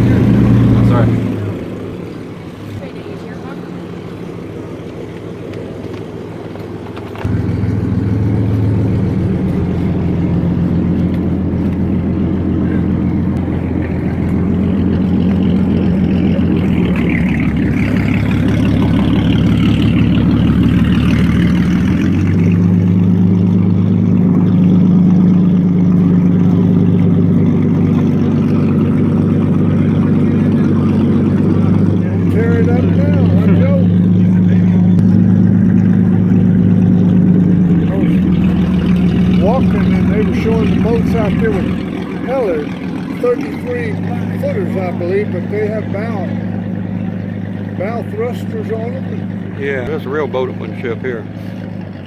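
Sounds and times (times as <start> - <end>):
boat engine idling: 0.0 - 52.0.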